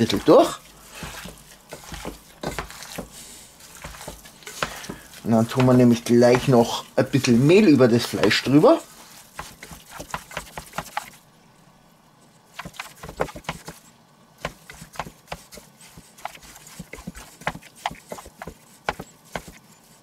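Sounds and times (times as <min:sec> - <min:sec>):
hands kneading meat in a bowl: 0:00.0 - 0:11.2, 0:12.5 - 0:20.0.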